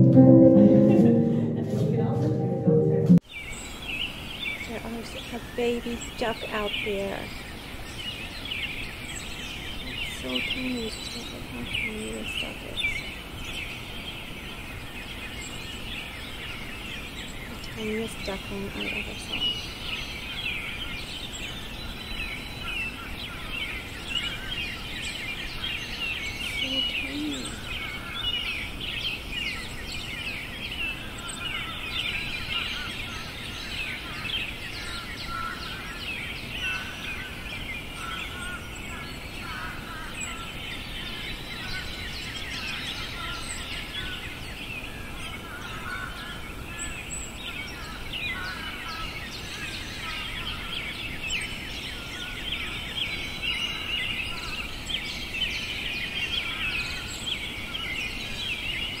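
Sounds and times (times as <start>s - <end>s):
faint outdoor hiss: 0.0s - 59.0s
songbirds chirping and trilling: 3.2s - 59.0s.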